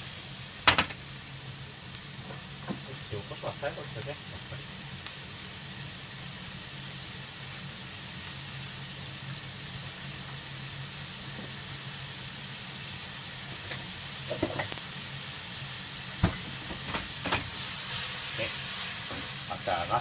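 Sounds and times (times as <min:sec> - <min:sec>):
food sizzling in frying pan: 0:00.0 - 0:20.0.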